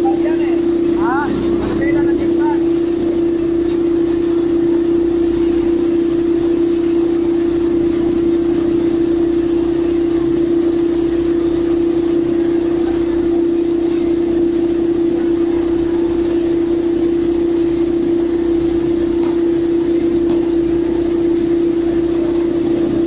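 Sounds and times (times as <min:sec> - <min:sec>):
pile driving machinery humming: 0:00.0 - 0:23.0.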